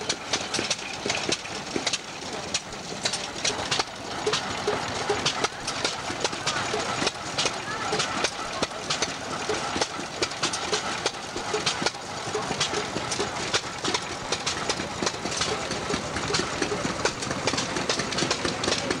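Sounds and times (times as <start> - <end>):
stationary engines running: 0.0 - 19.0.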